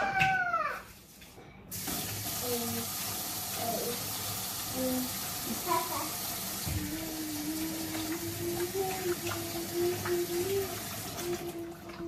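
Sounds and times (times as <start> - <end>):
faucet running into sink: 1.7 - 12.0.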